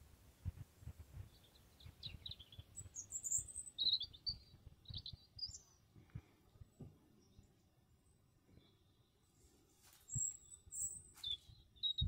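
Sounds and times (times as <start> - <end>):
songbird chirps and trills: 0.9 - 12.0.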